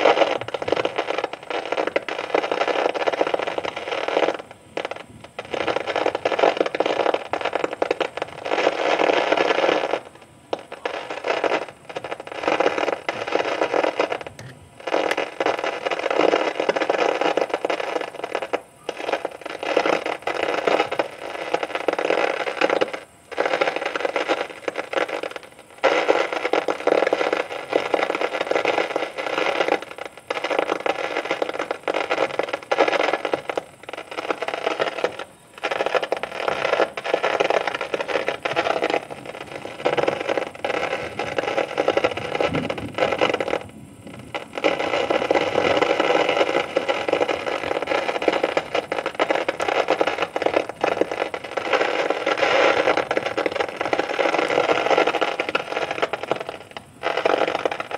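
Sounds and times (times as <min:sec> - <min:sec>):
thunderstorm hiss: 0:00.0 - 0:57.9.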